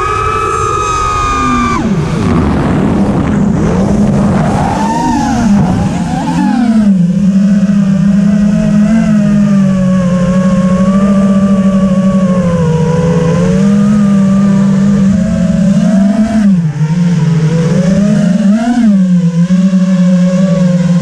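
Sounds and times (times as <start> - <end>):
quadcopter propellers buzzing: 0.0 - 21.0.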